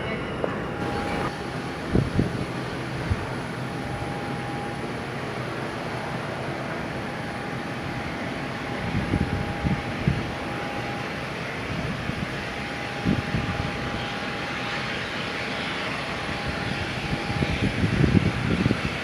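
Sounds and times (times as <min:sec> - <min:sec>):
aircraft engine noise: 0:00.0 - 0:19.0
wind buffeting microphone: 0:00.0 - 0:19.0.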